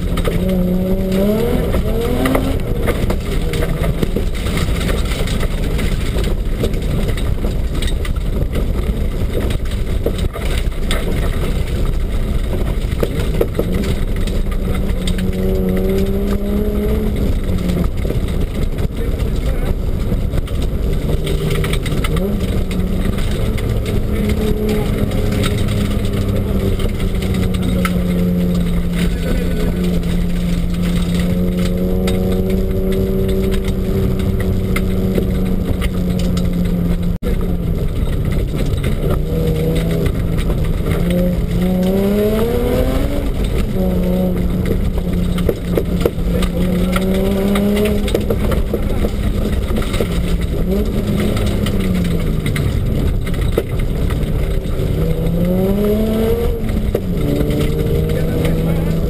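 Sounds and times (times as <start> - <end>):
rally car engine revving: 0.0 - 59.0
road and tyre noise: 0.0 - 59.0.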